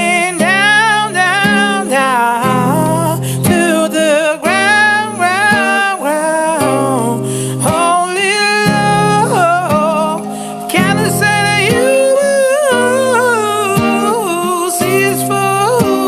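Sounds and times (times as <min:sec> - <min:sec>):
acoustic guitar: 0:00.0 - 0:16.0
person singing with vibrato: 0:00.0 - 0:16.0.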